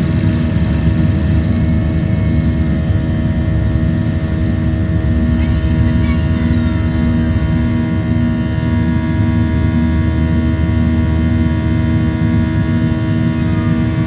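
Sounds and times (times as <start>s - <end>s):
jet engine buzz inside cabin: 0.0s - 14.0s.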